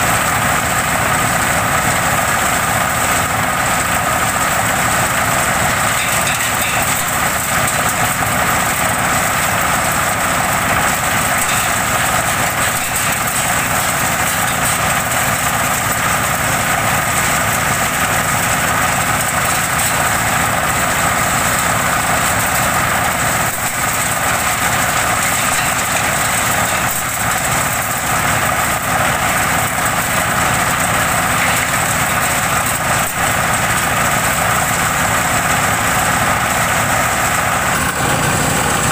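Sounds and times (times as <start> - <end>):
waste chopper with diesel engine: 0.0 - 38.9.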